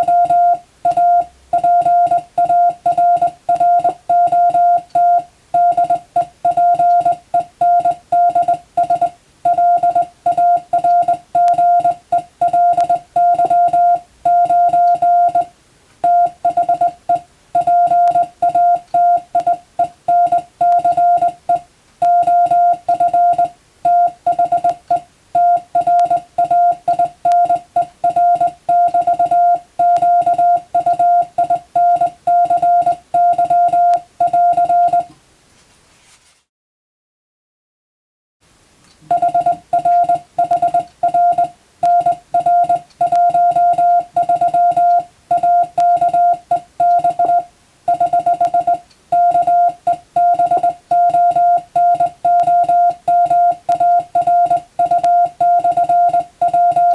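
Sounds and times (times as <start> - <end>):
morse code tone: 0.0 - 35.2, 39.0 - 56.9.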